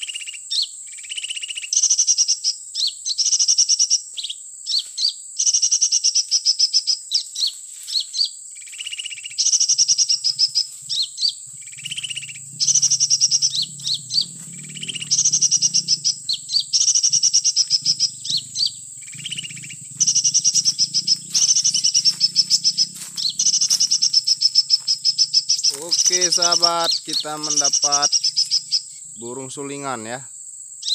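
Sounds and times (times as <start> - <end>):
sunbird trills and chirps: 0.0 - 30.9.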